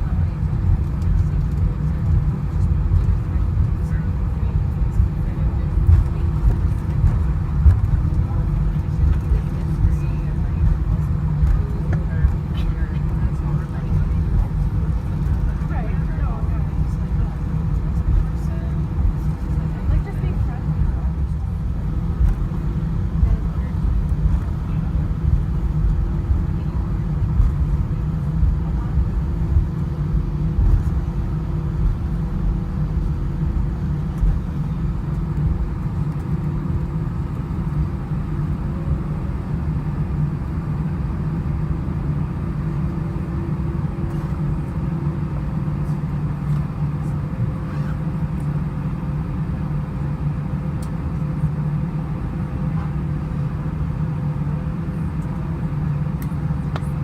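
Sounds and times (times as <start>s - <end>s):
jet engines idling rumble: 0.0s - 57.0s.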